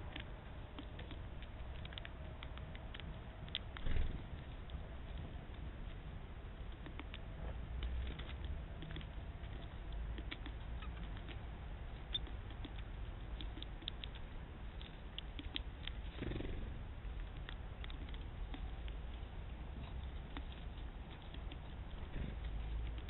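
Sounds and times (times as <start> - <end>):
low steady rumble: 0.0 - 23.0
rustle: 0.0 - 23.0.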